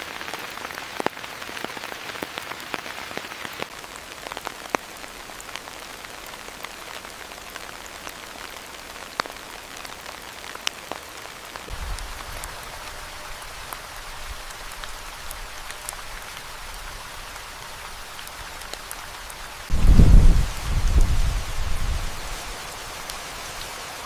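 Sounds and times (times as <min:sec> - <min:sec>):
raindrops striking close by: 0:00.0 - 0:24.0
steady rain: 0:00.0 - 0:24.0.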